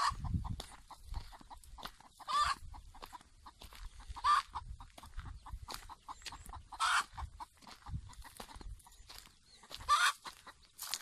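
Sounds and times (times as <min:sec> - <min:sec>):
chickens squawking: 0:00.0 - 0:11.0.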